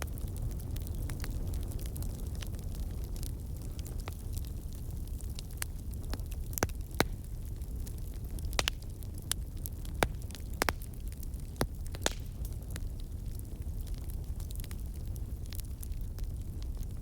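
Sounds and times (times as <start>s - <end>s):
burning wood crackling and popping: 0.0s - 17.0s
flames rumbling: 0.0s - 17.0s.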